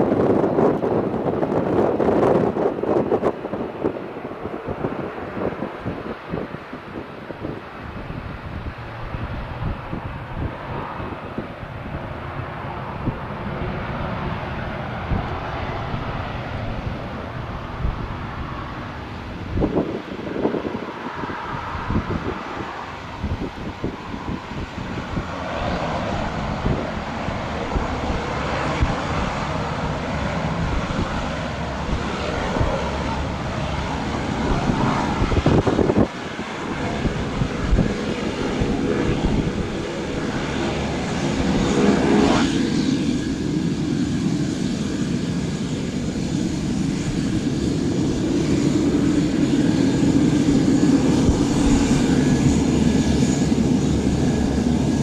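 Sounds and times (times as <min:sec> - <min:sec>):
turboprop aircraft taxiing: 0:00.0 - 0:55.0.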